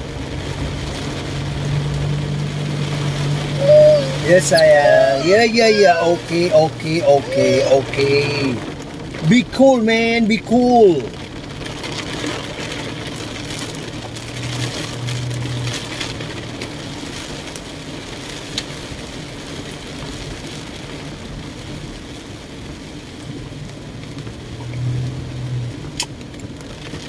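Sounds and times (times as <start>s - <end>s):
car engine hum: 0.0s - 27.0s
rain: 0.0s - 27.0s
tyres hissing on wet road: 0.0s - 27.0s.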